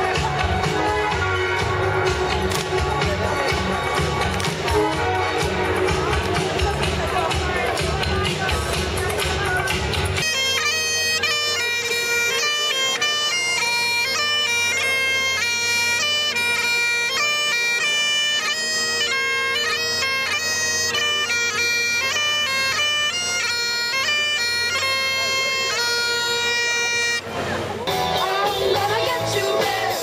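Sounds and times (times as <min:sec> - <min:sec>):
bagpipes playing melody: 0:00.0 - 0:30.0.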